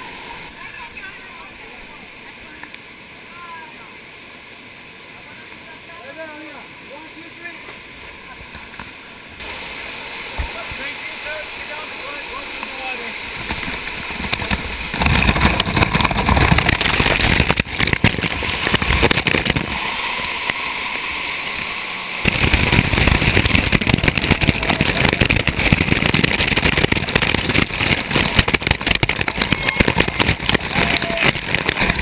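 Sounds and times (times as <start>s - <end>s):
water buffeting microphone: 0.0s - 32.0s
waterfall pouring and splashing: 0.0s - 32.0s.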